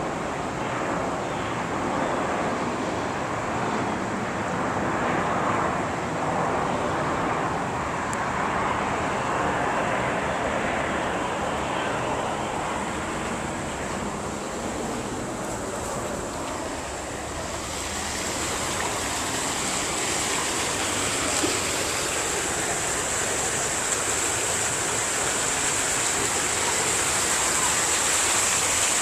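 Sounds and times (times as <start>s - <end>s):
jet engines rushing: 0.0s - 29.0s.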